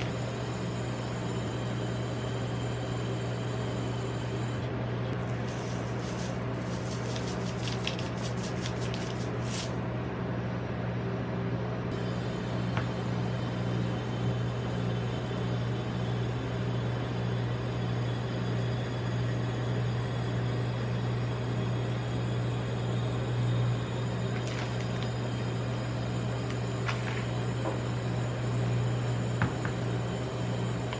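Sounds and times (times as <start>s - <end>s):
cold plate machine humming: 0.0s - 30.9s.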